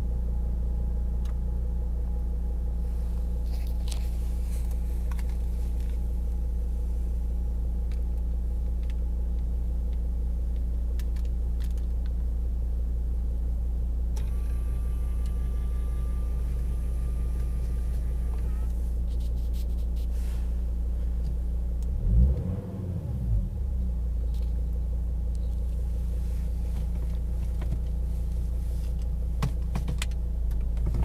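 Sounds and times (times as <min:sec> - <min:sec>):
diesel engine low rumble: 0:00.0 - 0:31.0.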